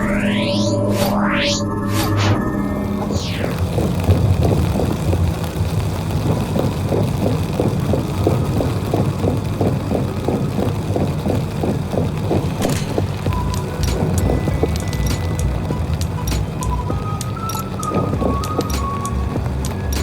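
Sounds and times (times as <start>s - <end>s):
vehicle engine rumbling: 0.0s - 20.0s
quick regular ticking: 3.2s - 20.0s.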